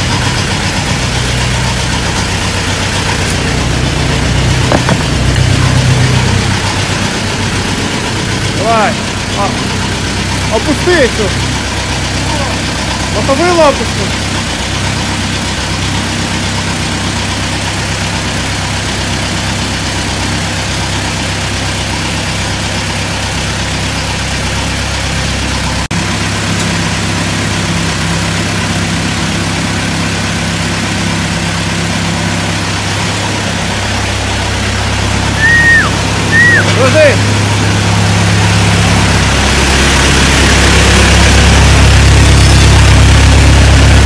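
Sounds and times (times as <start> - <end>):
combine harvester engine idling: 0.0 - 44.0.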